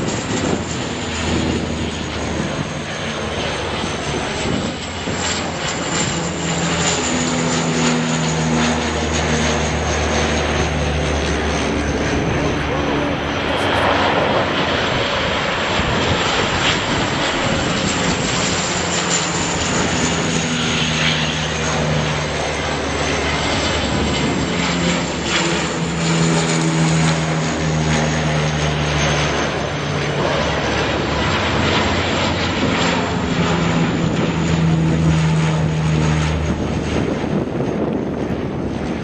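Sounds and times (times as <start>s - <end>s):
propeller plane droning overhead: 0.0s - 39.0s
steady rushing noise: 0.0s - 39.0s.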